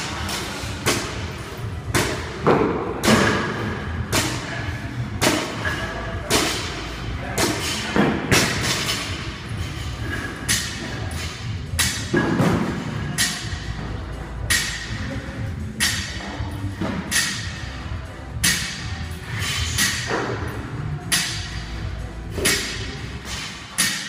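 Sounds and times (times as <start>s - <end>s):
faint music: 0.0s - 24.0s.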